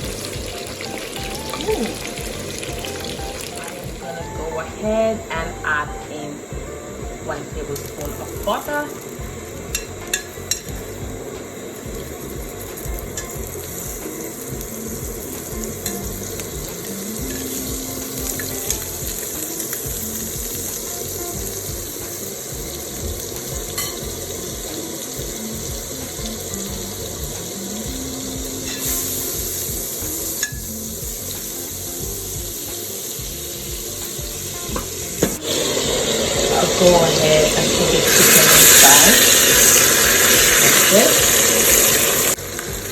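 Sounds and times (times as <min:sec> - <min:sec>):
chicken sizzling in a pan: 0:00.0 - 0:42.9.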